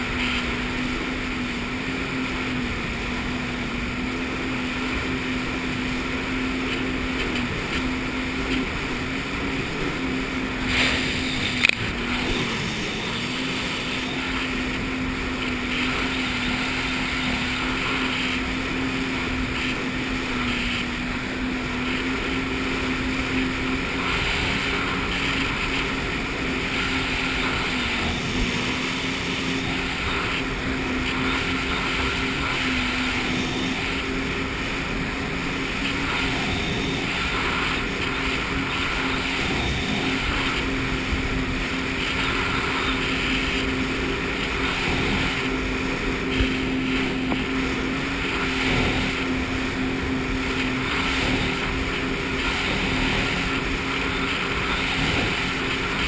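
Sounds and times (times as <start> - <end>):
jet ski engine running: 0.0 - 56.0
rushing water: 0.0 - 56.0.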